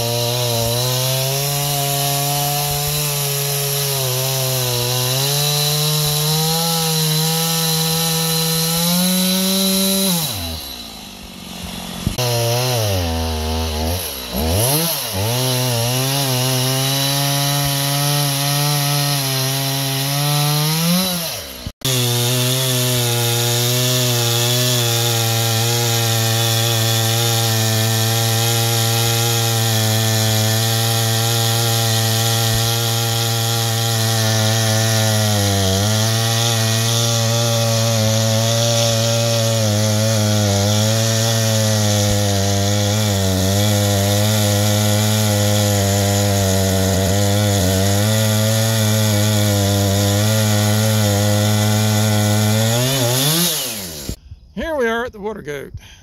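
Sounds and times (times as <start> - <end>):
chainsaw cutting log: 0.0 - 54.2.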